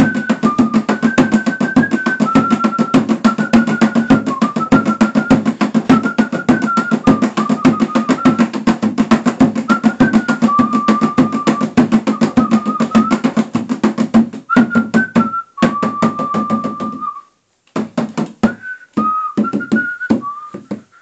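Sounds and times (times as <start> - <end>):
whistled tune: 0.0 - 8.6, 9.6 - 13.4, 14.5 - 17.4, 18.4 - 21.0
hand drum strokes: 0.0 - 17.1.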